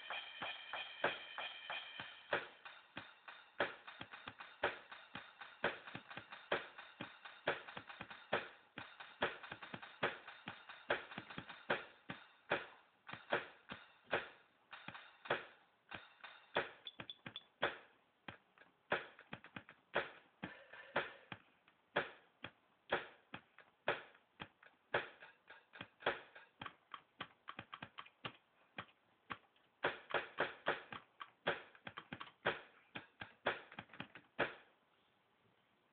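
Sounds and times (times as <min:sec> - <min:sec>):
drum taps: 0:00.0 - 0:34.6.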